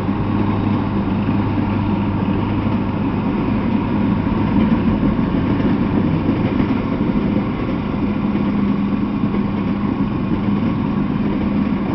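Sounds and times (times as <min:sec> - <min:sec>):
low hum: 0:00.0 - 0:11.9
steel wheels rumbling on rails: 0:00.0 - 0:11.9.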